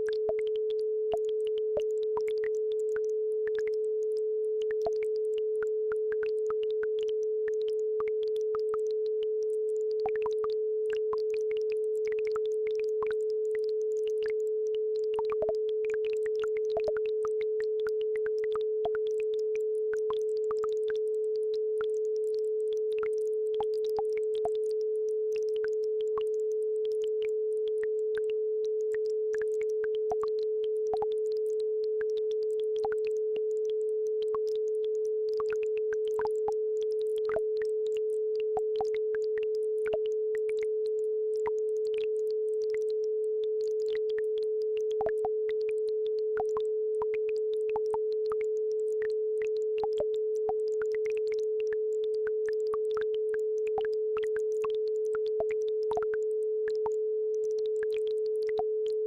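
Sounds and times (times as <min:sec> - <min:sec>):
electronic sine tone: 0:00.0 - 0:59.0.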